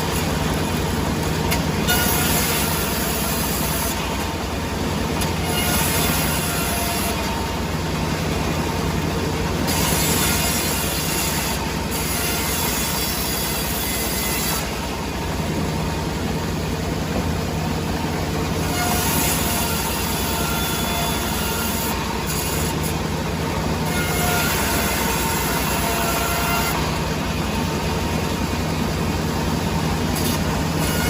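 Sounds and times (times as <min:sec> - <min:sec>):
sawmill saw running: 0:00.0 - 0:31.0.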